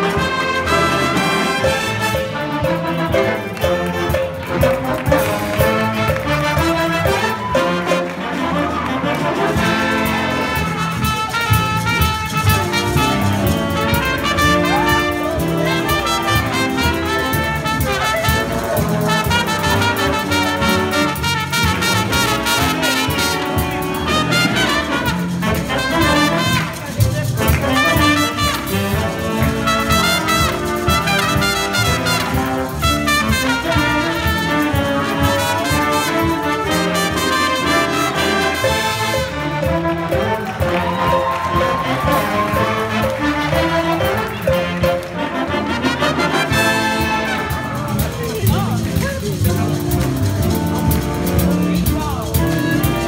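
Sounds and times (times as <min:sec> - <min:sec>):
jazz big band playing: 0:00.0 - 0:53.0.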